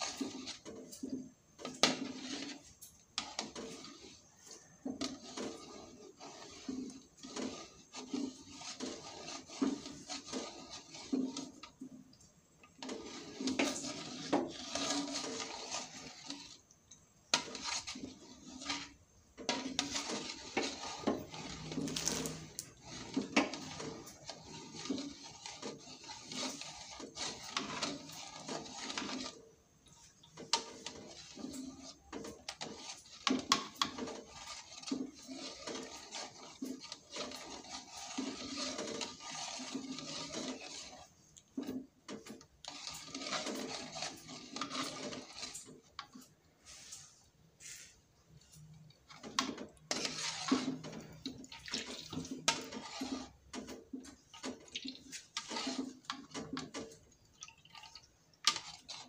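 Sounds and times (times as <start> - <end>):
metal spatula scraping a wok: 0.0 - 57.2, 58.4 - 59.0.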